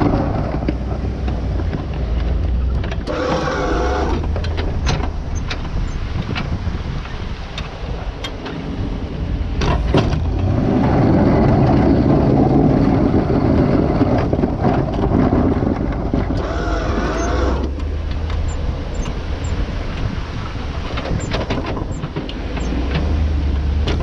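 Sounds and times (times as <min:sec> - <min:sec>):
knocks and rattles: 0:00.0 - 0:03.6, 0:04.2 - 0:08.7, 0:09.6 - 0:19.2, 0:20.8 - 0:24.0.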